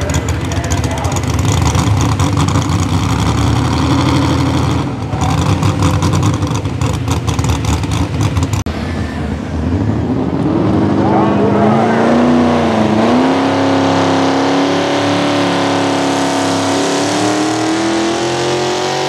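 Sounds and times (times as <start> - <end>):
engine running at full power: 0.0 - 19.0.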